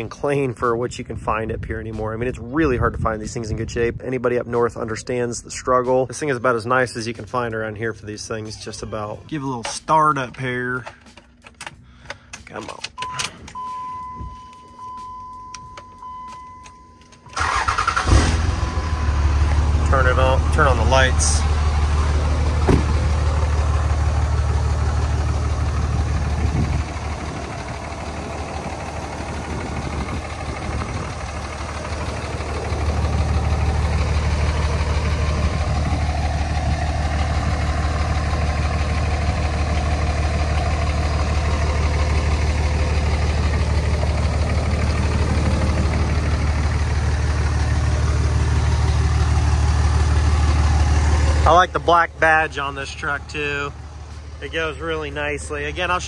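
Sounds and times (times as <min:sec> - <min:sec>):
diesel engine idling: 0:04.6 - 0:56.0.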